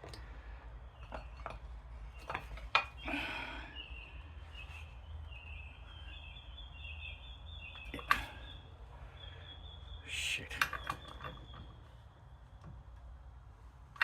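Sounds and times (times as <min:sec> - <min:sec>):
bird chirping: 0:00.8 - 0:13.0.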